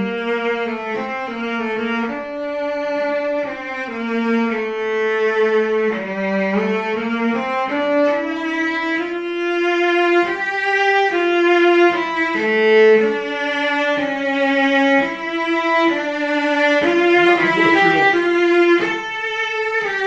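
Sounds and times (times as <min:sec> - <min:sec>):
bowed cello melody: 0:00.0 - 0:20.0.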